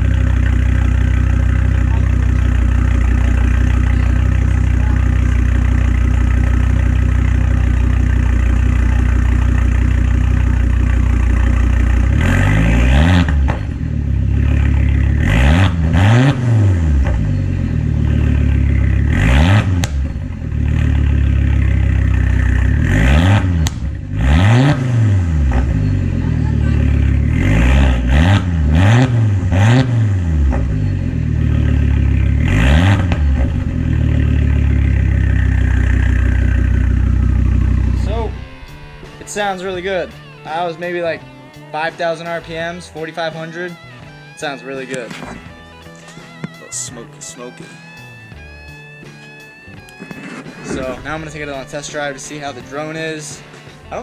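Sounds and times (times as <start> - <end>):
car engine idling and revving: 0.0 - 46.9, 47.6 - 54.0.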